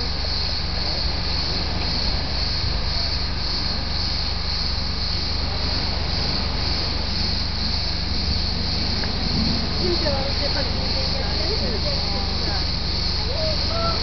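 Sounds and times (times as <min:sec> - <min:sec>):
low steady hum: 0:00.0 - 0:14.0
pulsing insect chorus: 0:00.0 - 0:14.0.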